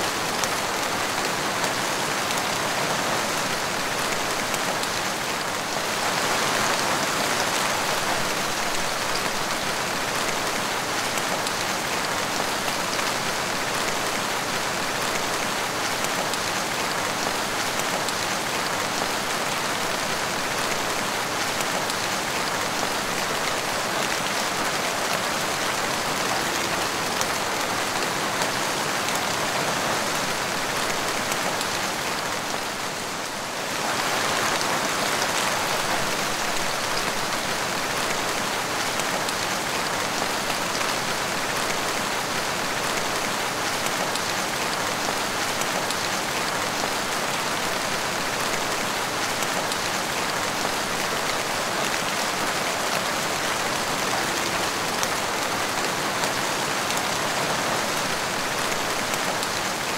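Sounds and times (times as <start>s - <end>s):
rain splashing on tiled floor: 0.0s - 59.9s.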